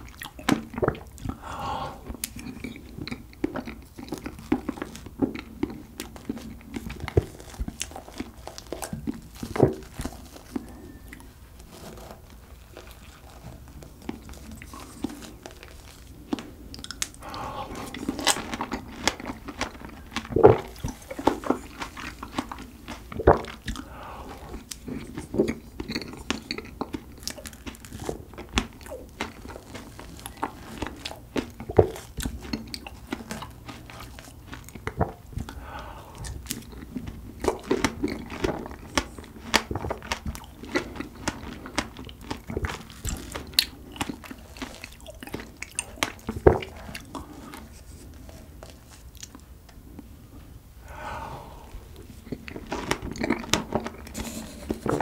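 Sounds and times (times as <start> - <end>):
crunchy chewing of strawberries: 0.0 - 55.0.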